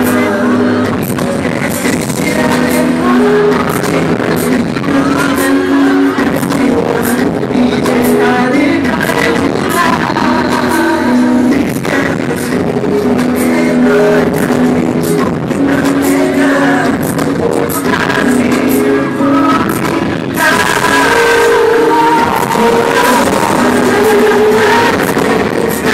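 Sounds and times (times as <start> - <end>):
amplified music: 0.0 - 25.9
male group singing a ballad: 0.0 - 25.9.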